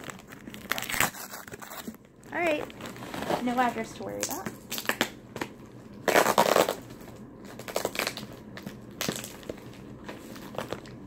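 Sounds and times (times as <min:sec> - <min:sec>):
cardboard crinkles: 0:00.0 - 0:11.0
cardboard package crunching rustle: 0:00.0 - 0:11.0.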